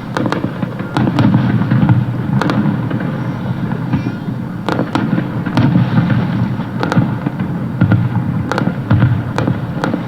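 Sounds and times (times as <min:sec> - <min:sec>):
fireworks shells bursting rumble: 0:00.0 - 0:10.0
sharp firework cracks: 0:00.0 - 0:10.0.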